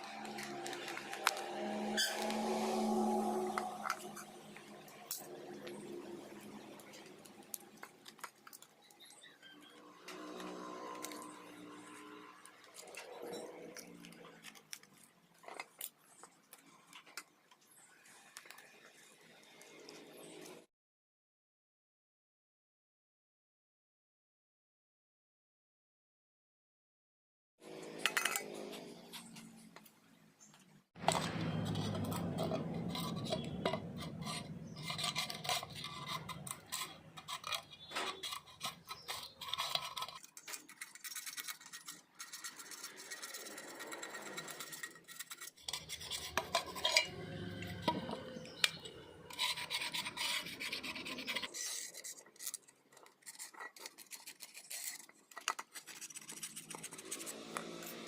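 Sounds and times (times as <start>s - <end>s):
rasping and scraping on metal: 0.0s - 18.6s, 27.6s - 29.9s, 31.0s - 58.0s.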